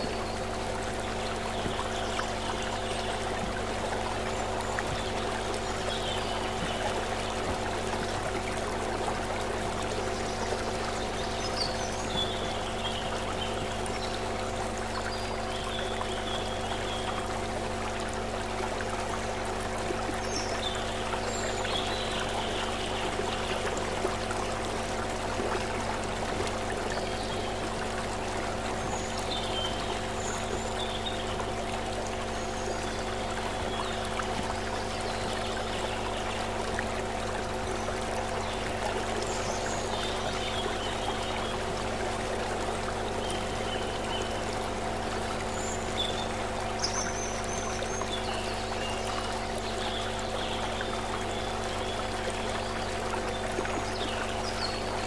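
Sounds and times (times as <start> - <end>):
low hum of held tones: 0.0 - 55.0
stream running over rocks: 0.0 - 55.0.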